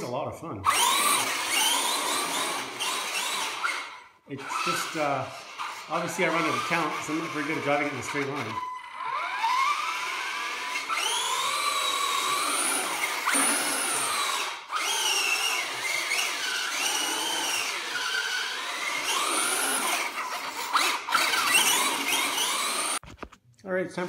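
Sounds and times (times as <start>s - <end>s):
toy truck motor whining: 0.7s - 23.0s.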